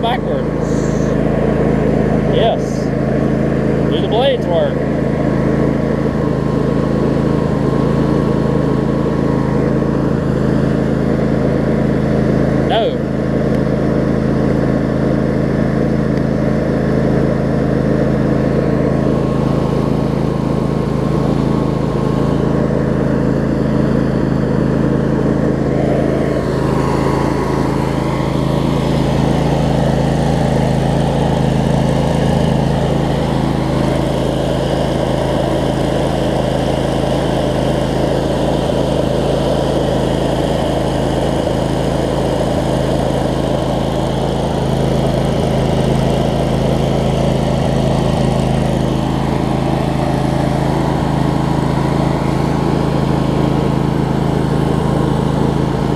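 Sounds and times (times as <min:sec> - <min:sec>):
riding mower engine running: 0:00.0 - 0:55.9.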